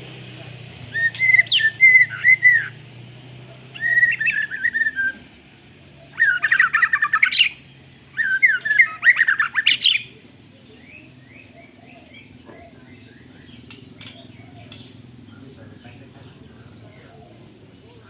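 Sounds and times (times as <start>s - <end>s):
bird singing with rolling trills: 0.0s - 18.0s.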